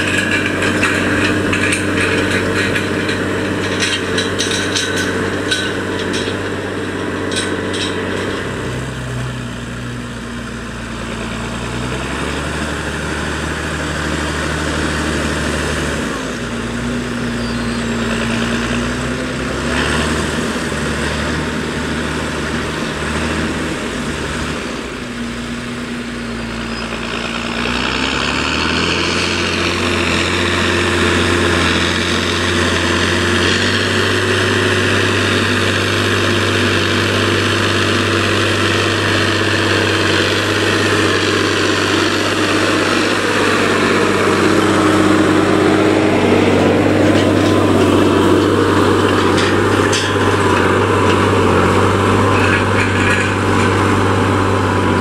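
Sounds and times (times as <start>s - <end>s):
tractor diesel engine running hard: 0.0s - 55.0s.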